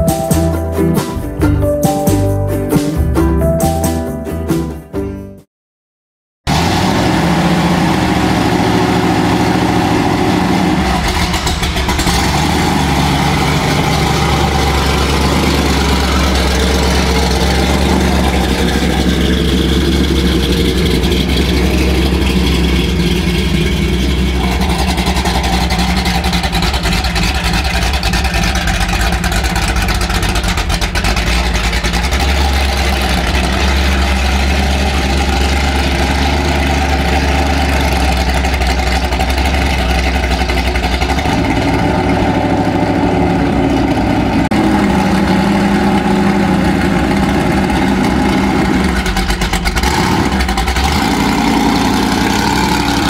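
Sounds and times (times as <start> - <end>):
deep vehicle exhaust rumble: 6.5 - 53.0.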